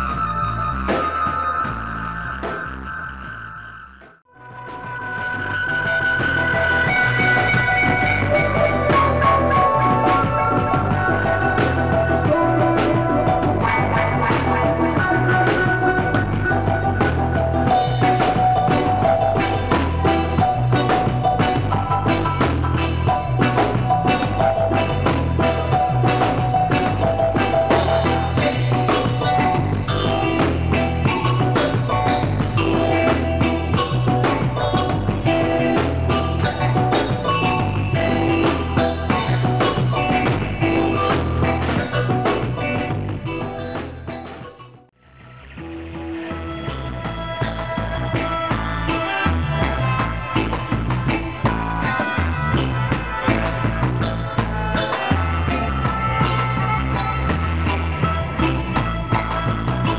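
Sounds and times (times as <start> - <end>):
drum kit: 0.0 - 59.9
electric guitar: 0.0 - 59.9
keyboard: 0.0 - 59.9
strong bass line: 0.0 - 59.9.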